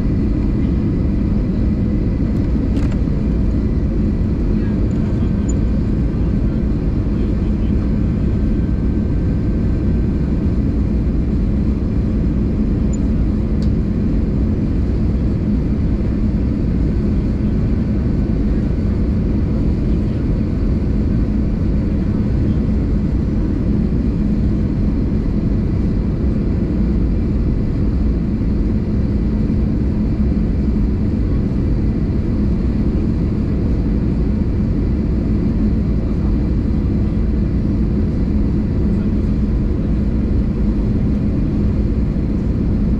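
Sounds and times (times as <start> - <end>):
jet engine roar in cabin: 0.0 - 42.9.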